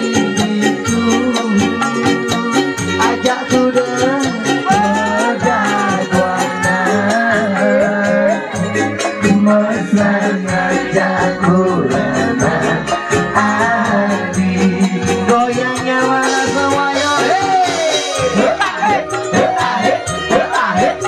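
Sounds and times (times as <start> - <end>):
person singing wavering melody: 0.0 - 21.0
pop band playing live: 0.0 - 21.0.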